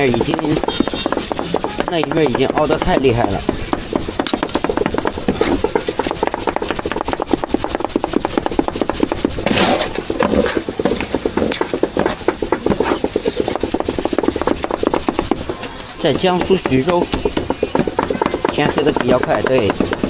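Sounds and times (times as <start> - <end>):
cleaver chopping meat on wood: 0.0 - 20.0
cleaver scrape: 0.0 - 20.0.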